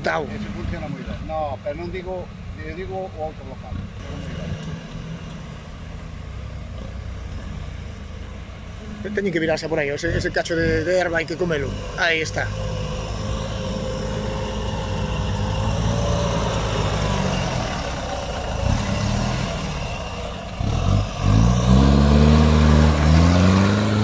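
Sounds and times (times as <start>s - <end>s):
engine working under load: 0.0s - 24.0s.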